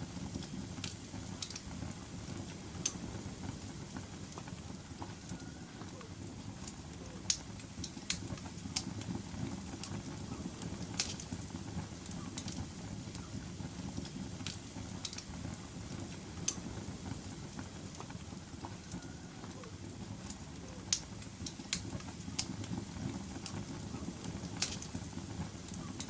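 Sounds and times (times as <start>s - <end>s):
fire flames rumbling: 0.0s - 26.0s
wood fire crackling and popping: 0.0s - 26.0s.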